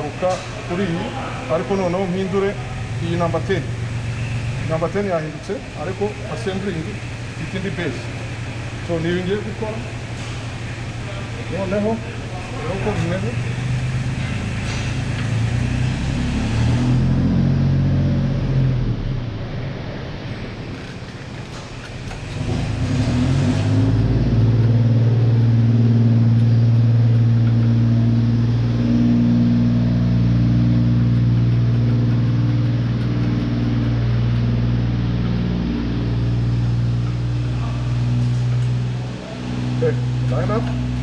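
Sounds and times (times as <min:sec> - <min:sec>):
motor spinning up and humming: 0:00.0 - 0:41.0.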